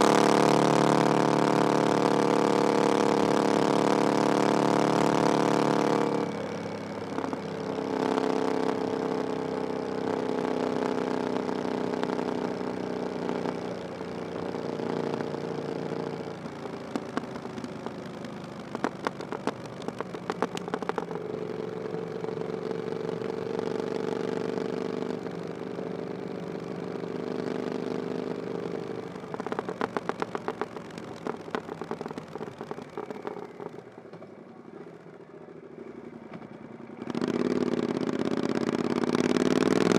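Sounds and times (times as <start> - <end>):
exhaust crackling and popping: 0.0 - 24.0, 25.1 - 34.8
motorcycle engine running: 0.0 - 39.9.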